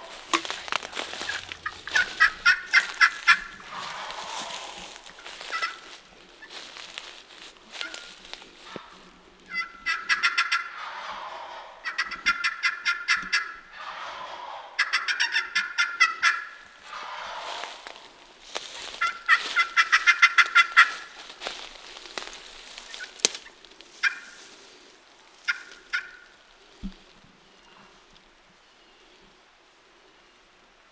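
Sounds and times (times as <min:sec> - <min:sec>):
turkeys gobbling: 0:00.0 - 0:27.0.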